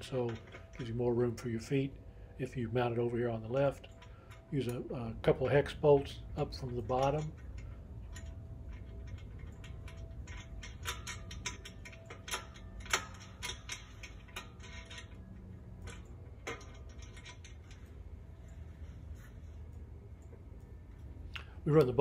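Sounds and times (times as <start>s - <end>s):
metal bolt and nut clicking: 0.0s - 1.9s, 2.9s - 18.6s.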